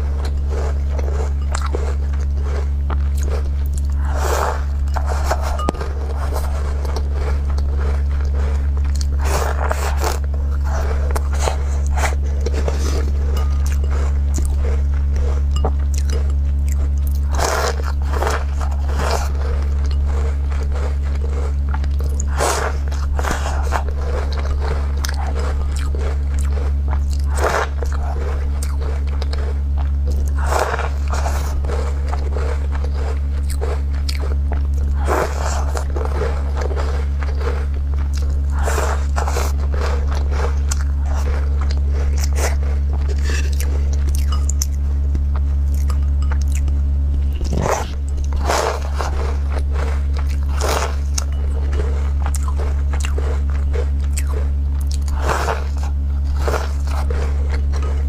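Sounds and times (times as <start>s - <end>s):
cookie crunching: 0.0s - 58.0s
soft chewing: 0.0s - 58.0s
steady low hum: 0.0s - 58.0s.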